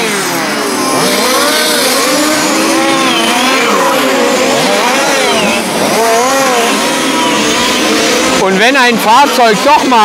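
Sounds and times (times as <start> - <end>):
small two-stroke engines revving: 0.0 - 10.0.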